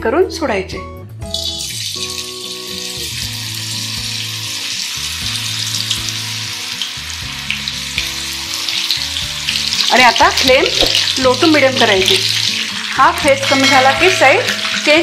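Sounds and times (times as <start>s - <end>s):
deep-frying in hot oil: 1.2s - 15.0s.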